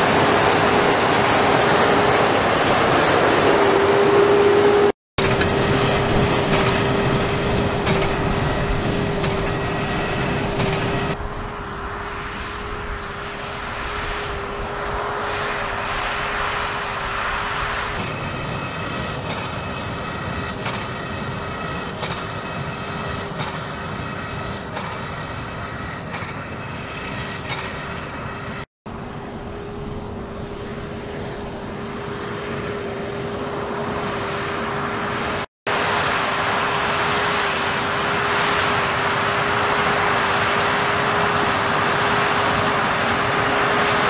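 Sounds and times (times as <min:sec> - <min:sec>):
tractor and baler drone: 0:00.0 - 0:44.0.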